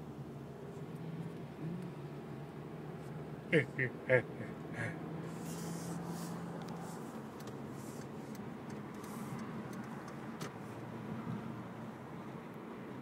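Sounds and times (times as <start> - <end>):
car cabin engine and tyre hum: 0.0 - 13.0.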